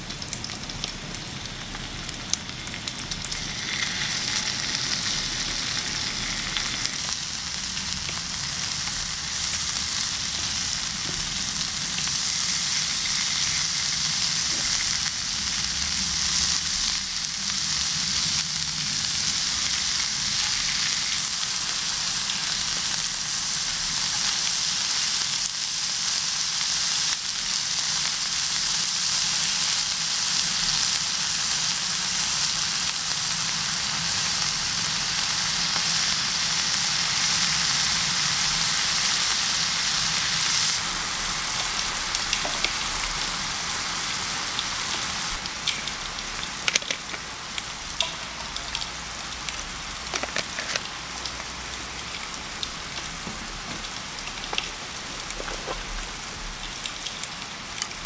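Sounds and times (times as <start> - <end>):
food sizzling on a griddle: 0.0 - 58.0.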